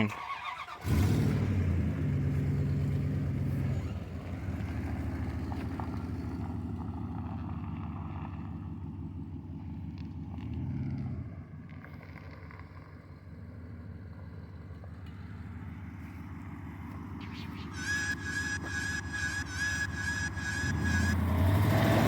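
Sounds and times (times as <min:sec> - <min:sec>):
engine humming: 0:00.2 - 0:22.0.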